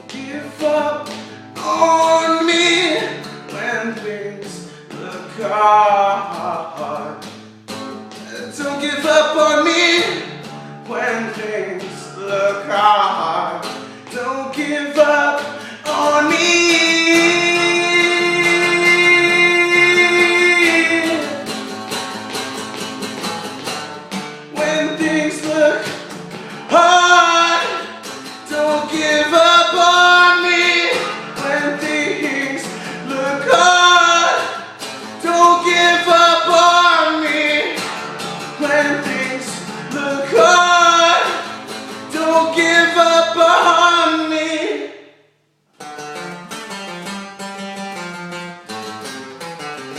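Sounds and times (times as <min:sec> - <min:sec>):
person singing: 0:00.0 - 0:07.2, 0:08.1 - 0:21.8, 0:24.5 - 0:37.9, 0:38.5 - 0:44.9
guitar accompaniment: 0:00.0 - 0:45.0, 0:45.8 - 0:49.9.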